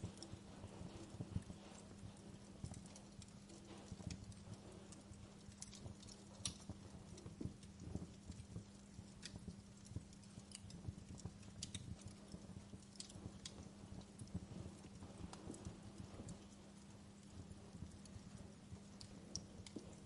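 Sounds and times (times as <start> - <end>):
faint low hum: 0.0 - 20.0
snaps and pops of fire: 0.0 - 20.0
wood fire crackling: 0.0 - 20.0.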